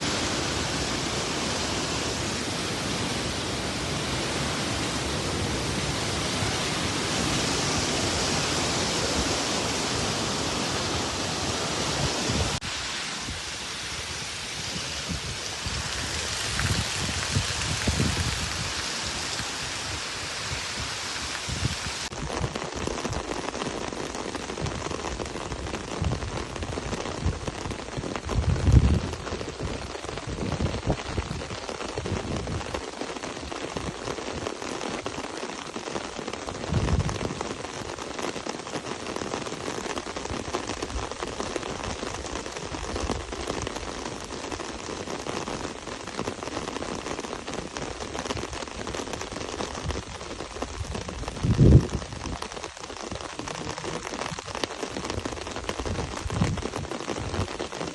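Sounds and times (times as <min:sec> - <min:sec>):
wind gusts on microphone: 0:00.0 - 0:35.1, 0:36.4 - 0:37.9, 0:39.2 - 0:57.9
heavy rain: 0:00.0 - 0:57.9.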